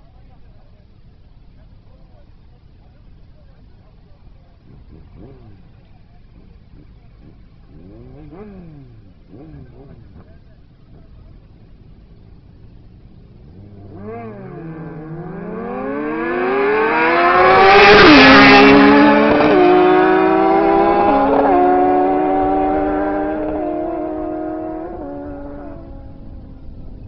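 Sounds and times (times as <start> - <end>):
motorcycles accelerating hard: 4.6 - 27.0.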